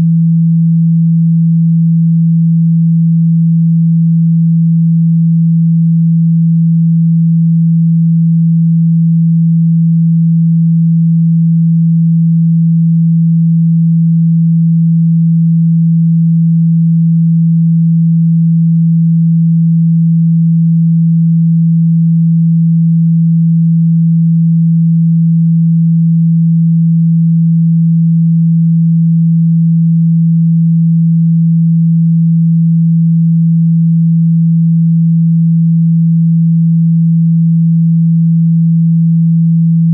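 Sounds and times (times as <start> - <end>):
steady sine tone: 0.0 - 39.9.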